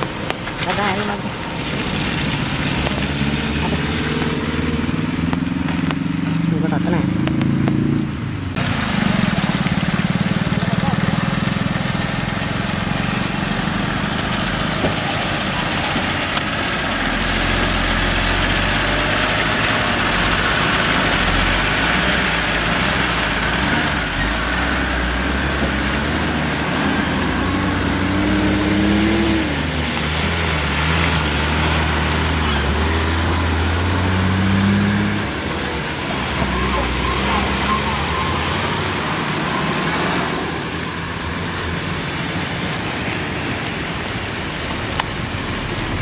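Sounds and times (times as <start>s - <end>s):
diesel truck engines low revs: 0.0s - 46.0s
tyre noise on wet road: 0.0s - 46.0s.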